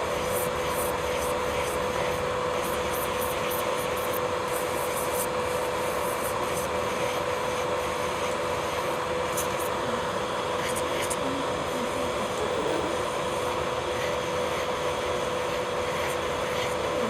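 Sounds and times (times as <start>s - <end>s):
electric nail drill whining: 0.0s - 17.0s.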